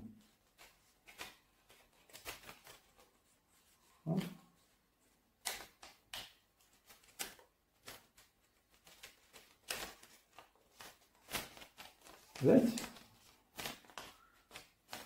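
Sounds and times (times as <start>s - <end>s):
paper rustling and crackling: 0.2s - 4.8s, 5.4s - 15.0s.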